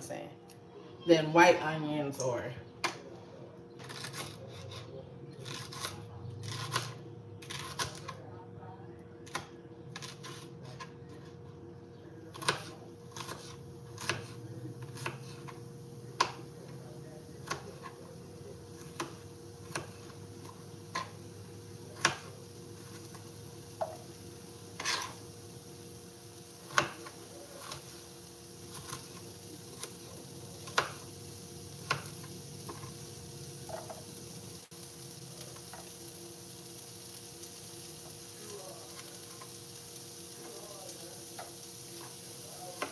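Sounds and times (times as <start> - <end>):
pepper sizzling in a pan: 3.7 - 8.1, 12.2 - 42.9.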